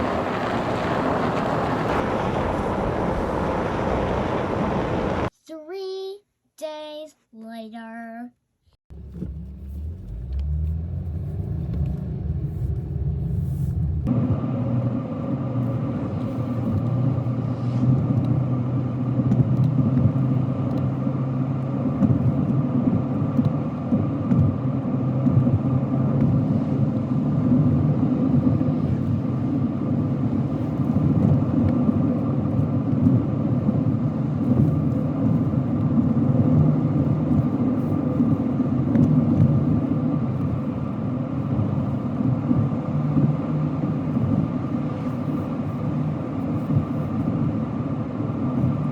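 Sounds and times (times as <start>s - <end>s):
car engine and road noise: 0.0s - 5.3s, 8.9s - 48.9s.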